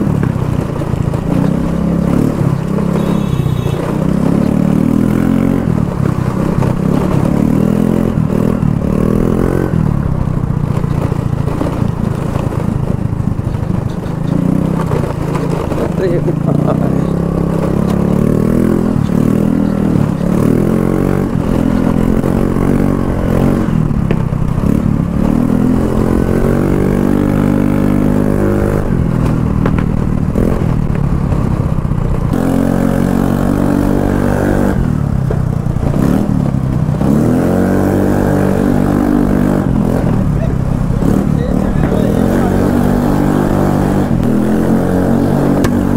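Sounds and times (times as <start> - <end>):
scooter engine revving: 0.0 - 45.9.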